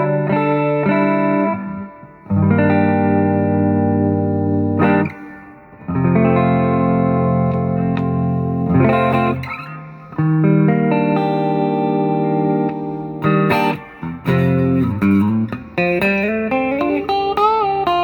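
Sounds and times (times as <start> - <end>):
electric guitar strumming chords: 0.0 - 18.0.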